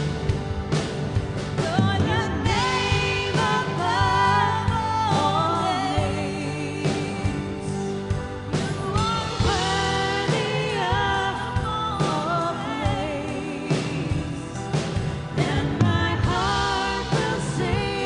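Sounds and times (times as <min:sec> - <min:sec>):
band playing worship music: 0:00.0 - 0:18.0
lead vocals singing: 0:01.6 - 0:18.0.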